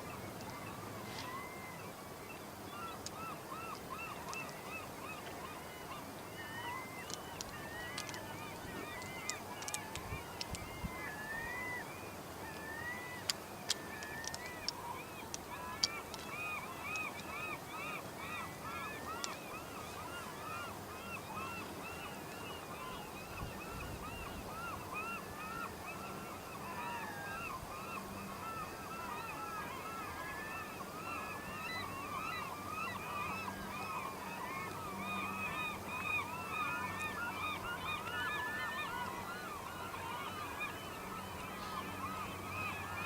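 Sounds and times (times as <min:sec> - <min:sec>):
flock of birds calling: 0:00.0 - 0:43.0.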